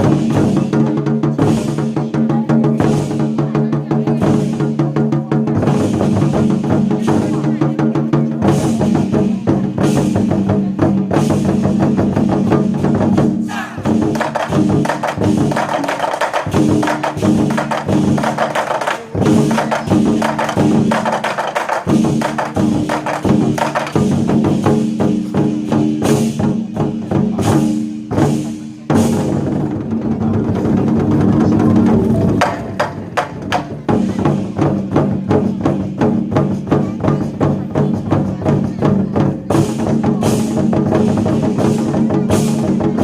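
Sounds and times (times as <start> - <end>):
war drums beating in unison: 0.0 - 43.0.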